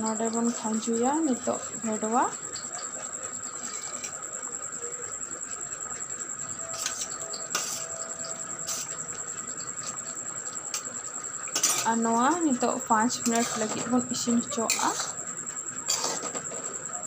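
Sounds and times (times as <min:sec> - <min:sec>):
curry simmering and bubbling: 0:00.5 - 0:16.9.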